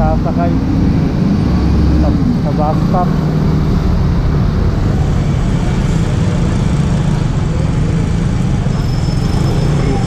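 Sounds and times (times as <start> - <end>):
road and traffic noise: 0.0 - 10.0.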